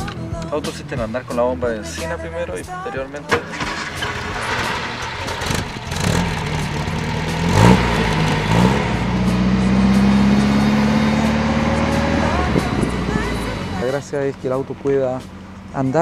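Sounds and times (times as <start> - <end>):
car engine revving: 0.6 - 16.0.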